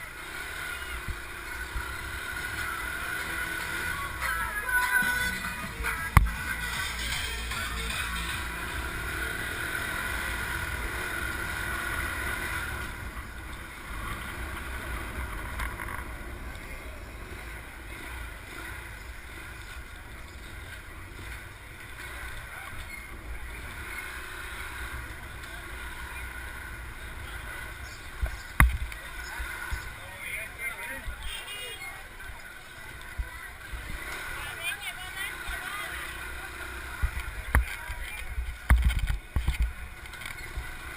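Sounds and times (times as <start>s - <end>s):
moving vehicle rumble: 0.0s - 40.9s.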